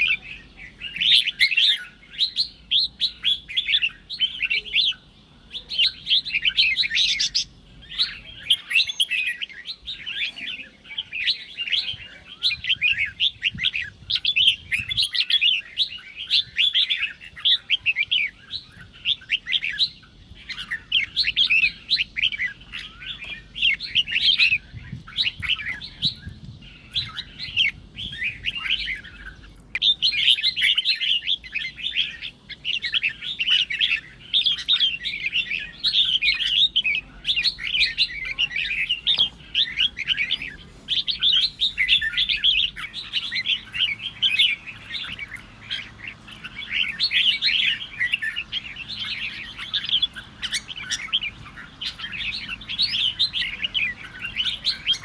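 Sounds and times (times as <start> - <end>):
bulbul singing chattering phrases: 0.0 - 55.0.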